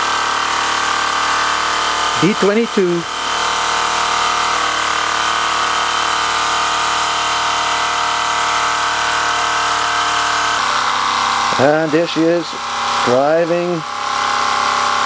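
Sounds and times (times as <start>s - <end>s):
toy steam engine running: 0.0s - 15.0s.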